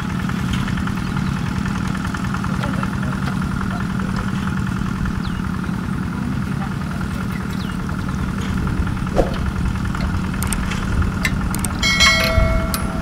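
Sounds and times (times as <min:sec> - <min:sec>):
water pump engine idling: 0:00.0 - 0:13.0.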